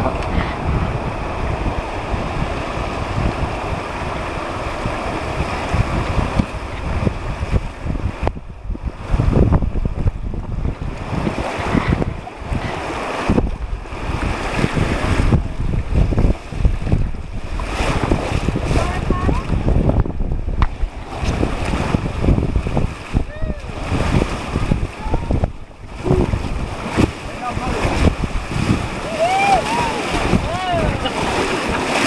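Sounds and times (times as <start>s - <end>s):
rushing river water: 0.0s - 32.0s
wind buffeting microphone: 0.0s - 32.0s.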